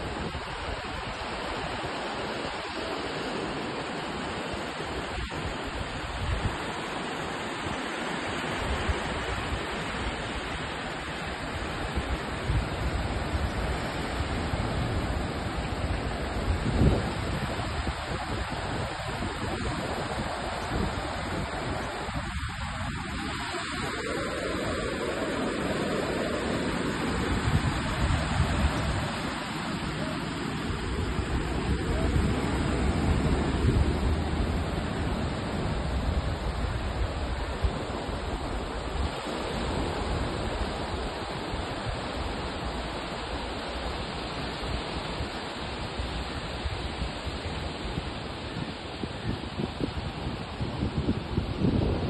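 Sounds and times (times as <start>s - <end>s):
small waves washing on beach: 0.0s - 52.0s
wind rumble on microphone: 0.0s - 52.0s.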